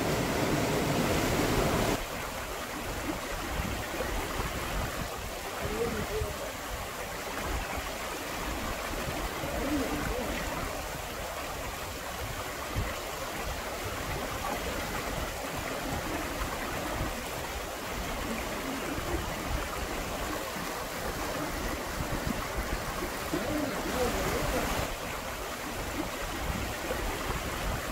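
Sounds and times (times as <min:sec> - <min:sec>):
stream water spilling over rock: 0:00.0 - 0:27.9.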